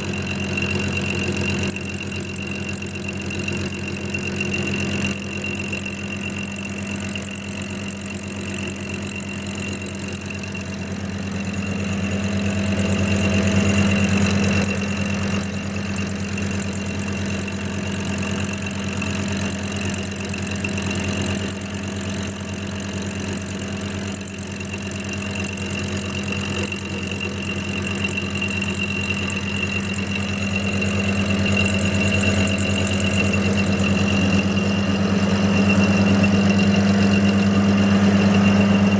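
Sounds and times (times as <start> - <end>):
high machine whine: 0.0 - 38.9
metal lathe humming: 0.0 - 38.9.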